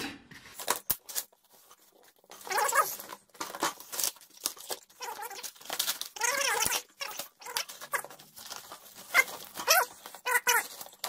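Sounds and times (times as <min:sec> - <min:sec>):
cardboard and tape tearing: 0:00.5 - 0:11.0.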